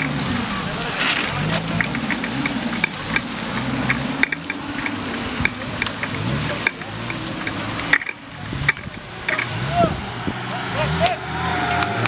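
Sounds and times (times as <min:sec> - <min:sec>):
crackling hiss: 0:00.0 - 0:12.0
suv engine revving: 0:00.0 - 0:12.0
tyres churning through mud: 0:00.0 - 0:12.0.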